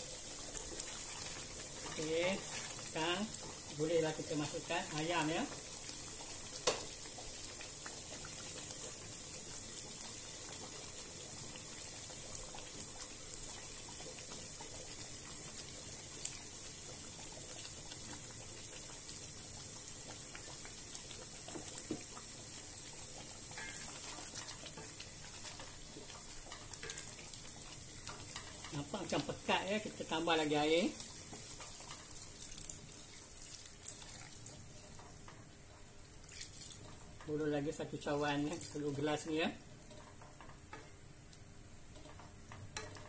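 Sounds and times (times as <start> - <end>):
curry simmering in a wok: 0.0 - 43.0.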